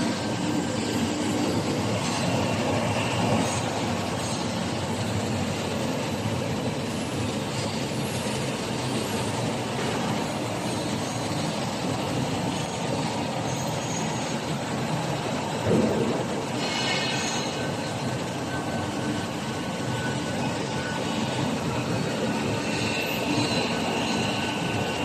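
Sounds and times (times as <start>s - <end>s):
printing machine running: 0.0s - 25.0s.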